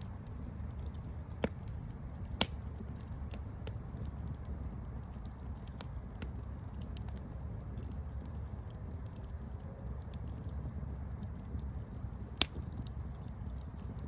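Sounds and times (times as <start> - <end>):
campfire crackling: 0.0 - 14.0
loud fire pops: 0.1 - 8.4, 11.0 - 14.0.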